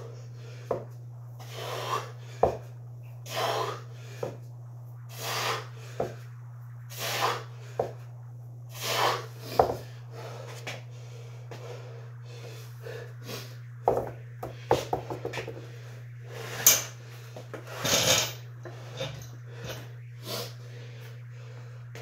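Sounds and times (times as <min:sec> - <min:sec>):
forceful breaths: 0:00.0 - 0:22.0
steady low hum: 0:00.0 - 0:22.0.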